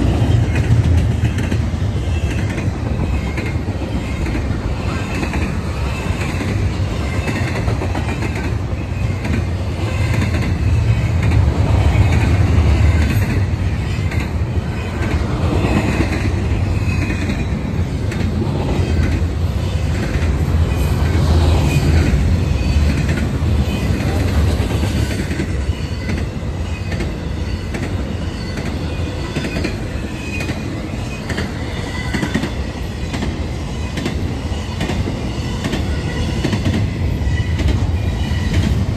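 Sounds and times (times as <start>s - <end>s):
clickety-clack of rail joints: 0.0s - 38.9s
freight train wheels rumbling: 0.0s - 38.9s.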